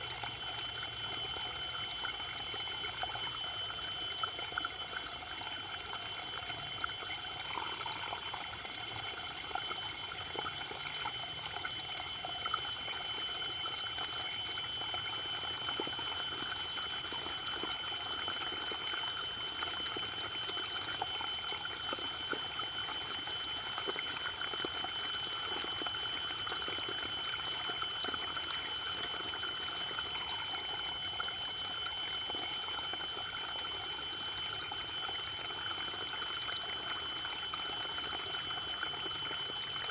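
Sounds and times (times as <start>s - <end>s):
faint high-pitched ringing: 0.0s - 39.9s.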